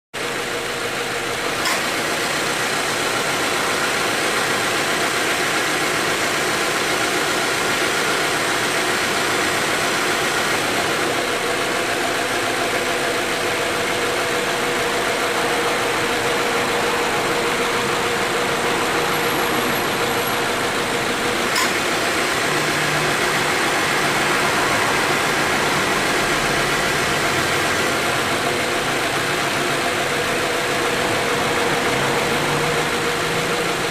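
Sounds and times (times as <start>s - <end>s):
air conditioning compressor: 0.2s - 33.9s
car engine idling: 0.2s - 33.9s.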